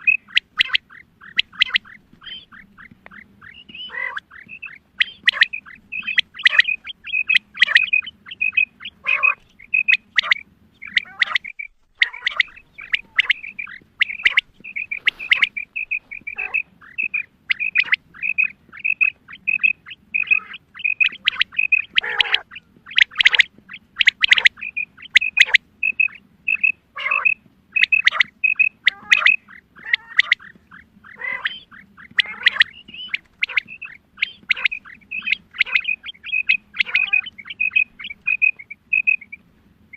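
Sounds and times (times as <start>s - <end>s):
quail harsh falling calls: 0.0s - 39.9s
quail short high calls: 0.0s - 39.9s.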